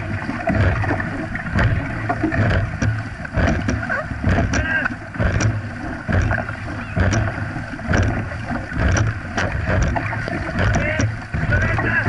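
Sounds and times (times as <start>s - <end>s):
paddles striking water: 0.0s - 12.0s
water splashing against hull: 0.0s - 12.0s.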